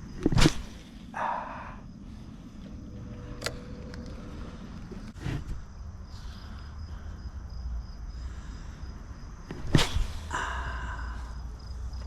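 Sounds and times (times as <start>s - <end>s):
low outdoor rumble: 0.0s - 12.0s
night insects trilling: 0.0s - 12.0s.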